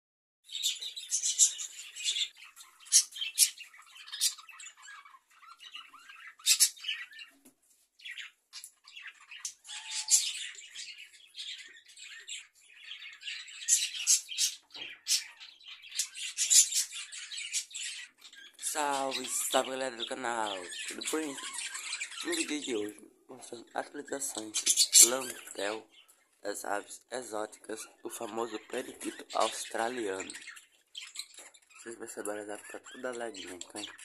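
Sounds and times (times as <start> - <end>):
budgerigars chattering: 0.5 - 7.4, 8.0 - 34.0.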